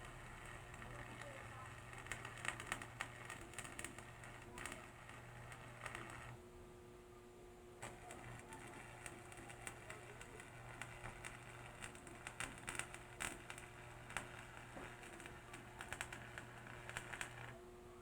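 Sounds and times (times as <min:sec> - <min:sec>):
welder low hum: 0:00.0 - 0:06.4, 0:07.8 - 0:18.0
welding arc crackling: 0:00.0 - 0:06.4, 0:07.8 - 0:17.6.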